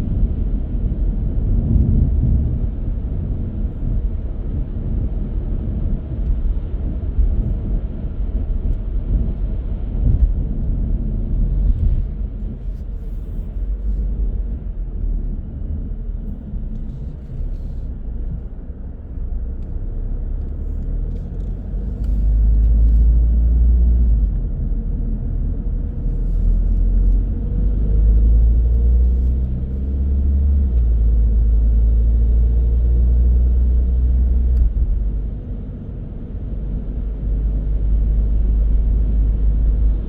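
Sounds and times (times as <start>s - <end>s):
car tyres and engine rumble: 0.0s - 40.0s.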